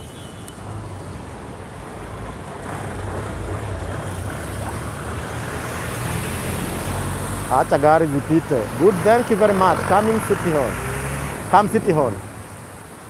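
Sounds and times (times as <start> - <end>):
tyres hissing on wet street: 0.0 - 13.0.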